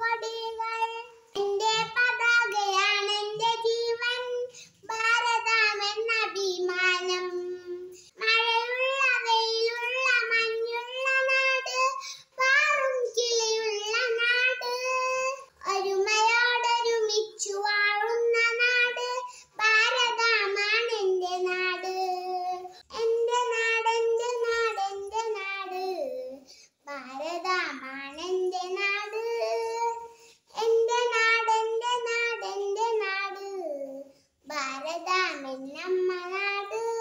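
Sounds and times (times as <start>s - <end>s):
girl singing unaccompanied: 0.0s - 37.0s.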